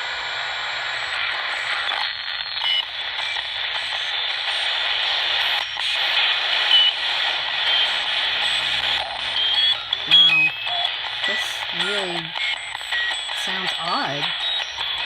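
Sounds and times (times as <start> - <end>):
radio static hiss: 0.3 - 15.0.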